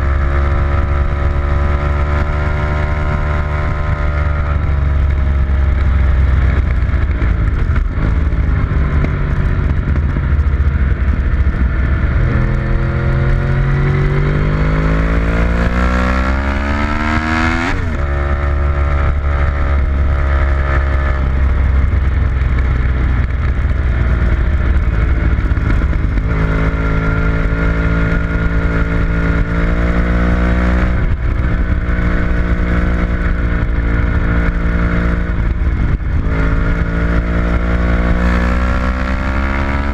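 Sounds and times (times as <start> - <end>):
heavy wind rumble: 0.0 - 39.9
vehicle engine at speed: 0.0 - 39.9.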